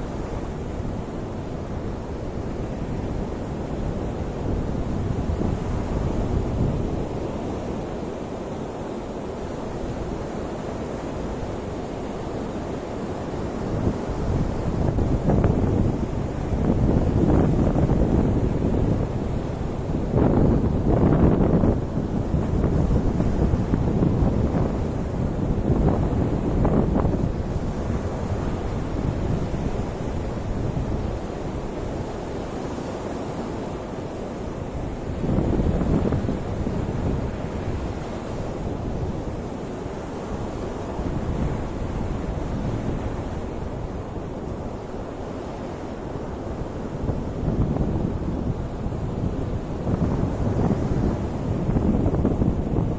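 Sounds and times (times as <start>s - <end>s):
wind buffeting microphone: 0.0s - 8.4s, 9.2s - 52.9s
ocean surf washing: 0.0s - 52.9s.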